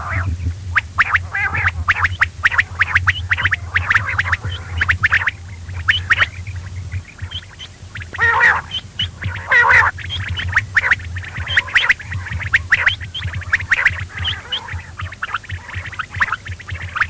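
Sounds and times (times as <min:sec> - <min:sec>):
harsh quail calls: 0:00.0 - 0:17.0
low steady hum: 0:00.0 - 0:17.0
quail chirping: 0:00.0 - 0:17.0.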